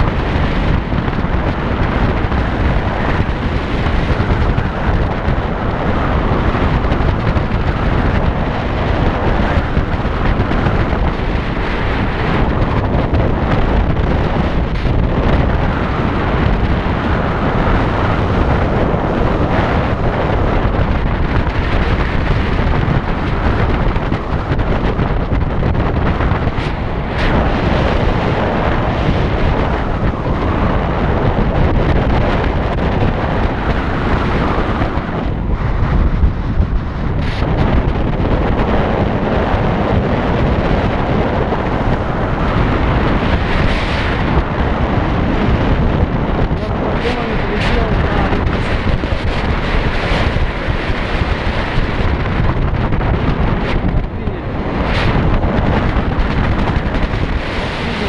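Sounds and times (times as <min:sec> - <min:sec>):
motorcycle and road noise: 0:00.0 - 0:58.0
wind buffeting microphone: 0:00.0 - 0:58.0.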